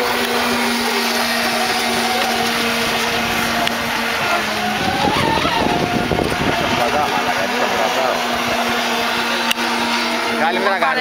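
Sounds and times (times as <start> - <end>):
powerboat engine droning: 0.0 - 11.0.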